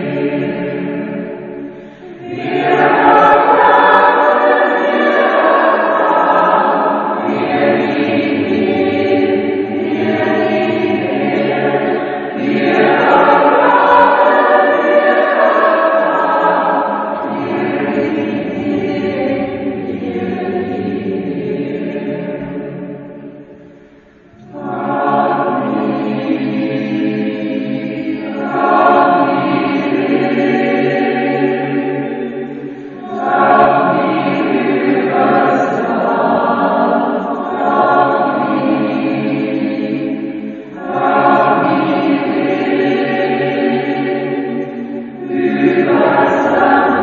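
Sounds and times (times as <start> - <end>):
choir singing: 0.0 - 47.0.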